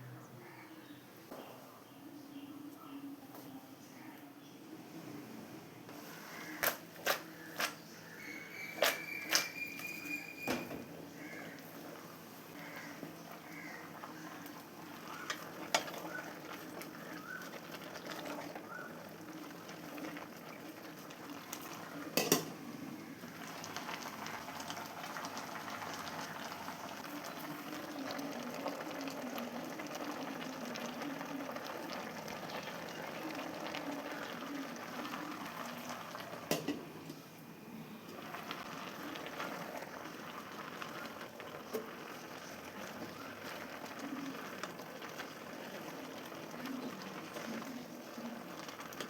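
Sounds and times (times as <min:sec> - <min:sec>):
pot simmering and bubbling: 0:04.7 - 0:49.0.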